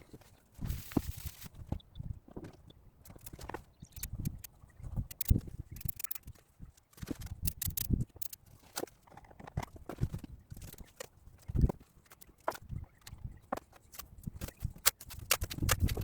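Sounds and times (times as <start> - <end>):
irregular clicks and knocks: 1.7 - 16.0.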